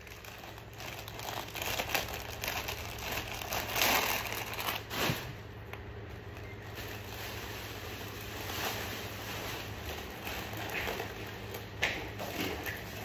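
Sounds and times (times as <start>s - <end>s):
clothing packaging crinkling: 0.0s - 13.0s.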